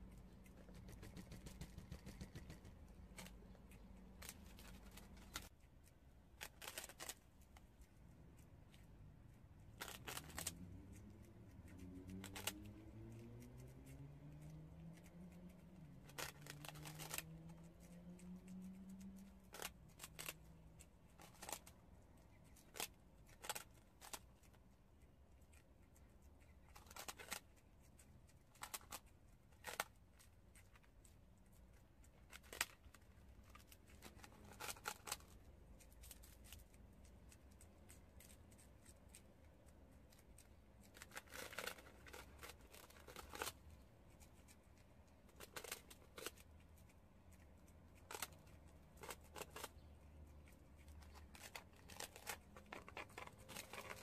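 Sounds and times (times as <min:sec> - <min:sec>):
animals crunching rice cakes: 0:00.0 - 0:54.0
faint low hum: 0:00.0 - 0:54.0.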